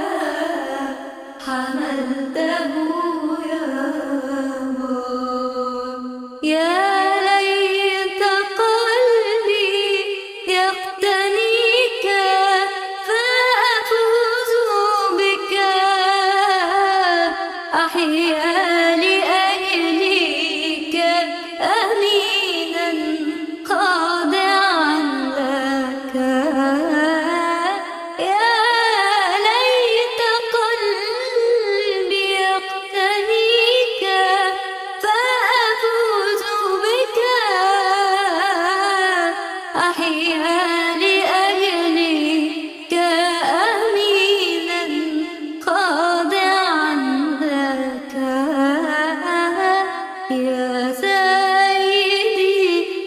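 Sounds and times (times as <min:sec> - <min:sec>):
solo singer ornamented melody: 0:00.0 - 0:53.0.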